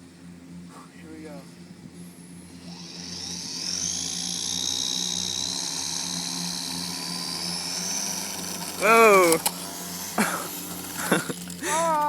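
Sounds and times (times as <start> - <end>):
model plane motor whine: 0.0 - 12.0.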